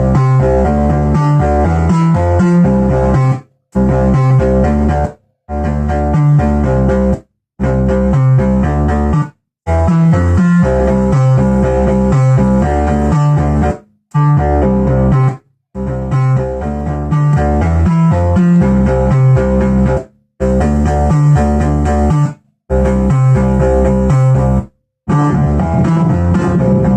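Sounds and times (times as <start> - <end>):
heavy synth bass line: 0.0 - 26.9
plucky synthesizer sequence: 0.0 - 26.9.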